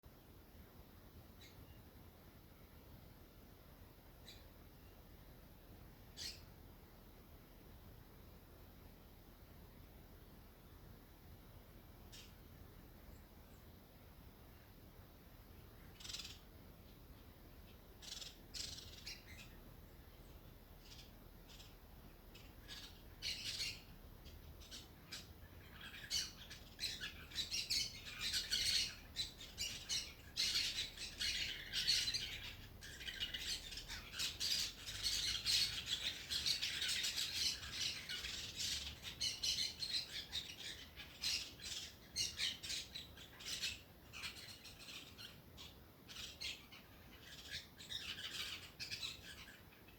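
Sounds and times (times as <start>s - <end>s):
small birds chirping: 1.1s - 49.9s.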